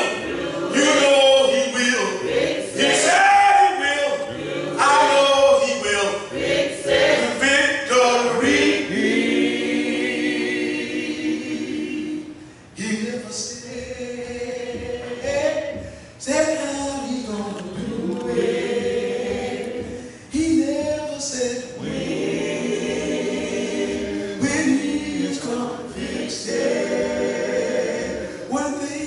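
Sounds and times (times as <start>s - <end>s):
man leading gospel singing: 0.0s - 9.2s, 12.8s - 29.0s
voices singing along: 0.0s - 29.0s.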